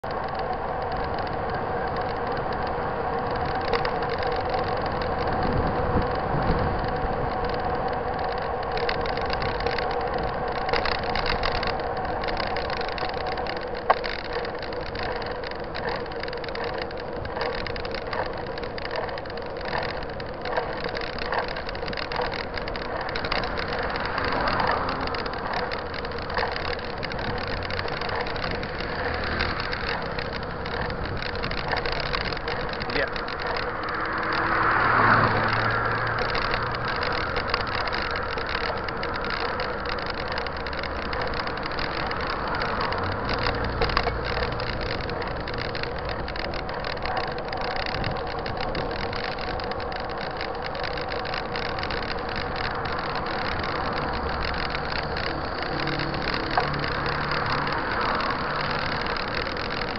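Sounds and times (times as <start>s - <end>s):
bike rattling over bumps: 0.0s - 59.9s
bike tyre and wind noise: 0.0s - 59.9s
constant hum: 0.0s - 59.9s.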